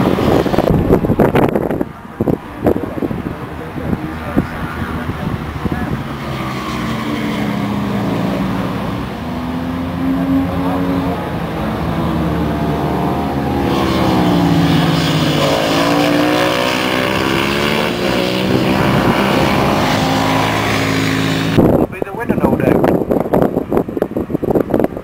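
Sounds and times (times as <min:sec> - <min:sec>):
racing motorcycle engines: 0:00.0 - 0:22.8.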